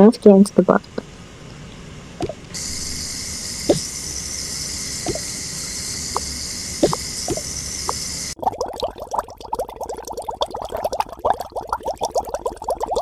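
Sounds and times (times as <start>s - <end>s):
water filling a bathtub: 2.2s - 13.0s.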